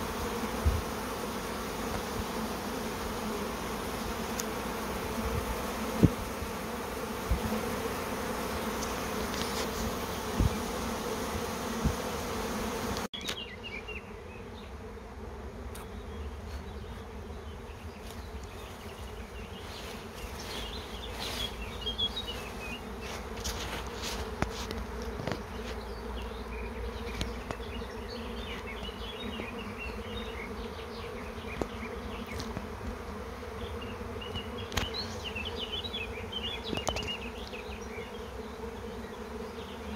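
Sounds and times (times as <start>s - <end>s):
honeybee swarm buzzing: 0.0s - 39.9s.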